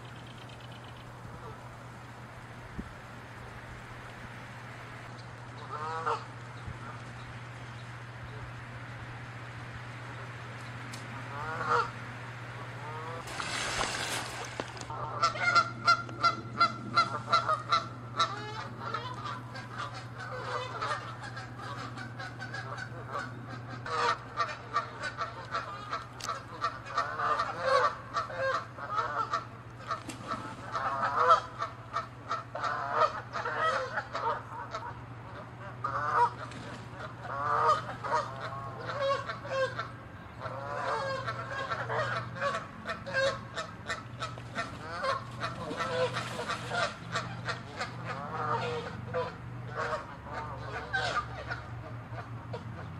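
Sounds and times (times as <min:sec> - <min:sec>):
low hum: 0:00.0 - 0:52.9
geese honking: 0:05.6 - 0:07.0, 0:11.2 - 0:52.9.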